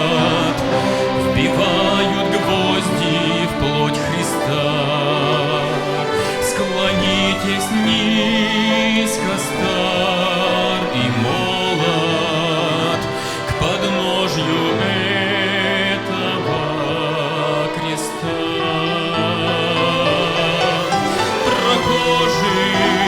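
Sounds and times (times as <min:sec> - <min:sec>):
string orchestra playing a hymn: 0:00.0 - 0:23.0.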